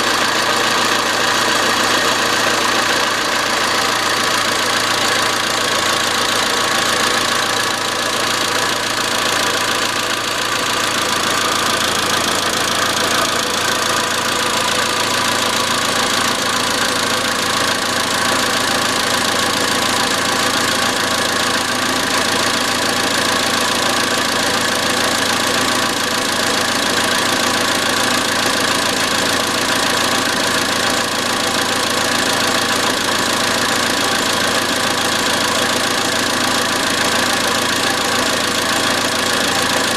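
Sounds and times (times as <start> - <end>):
car engine idling: 0.0 - 39.9
metallic engine knocking: 0.1 - 39.9.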